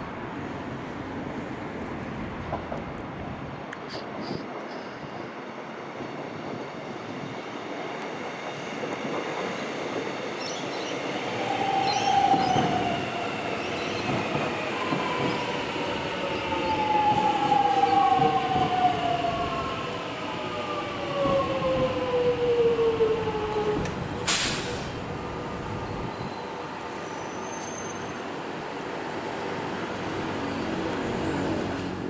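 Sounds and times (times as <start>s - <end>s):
rail and wheel rumble: 0.0s - 32.0s.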